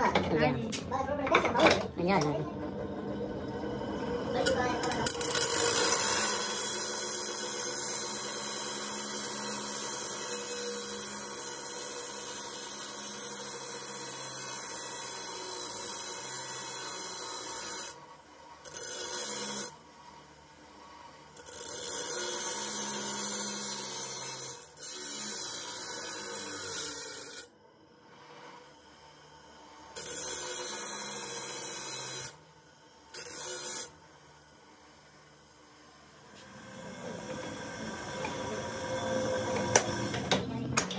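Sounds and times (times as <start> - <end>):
grinder grinding steel: 0.0 - 40.9.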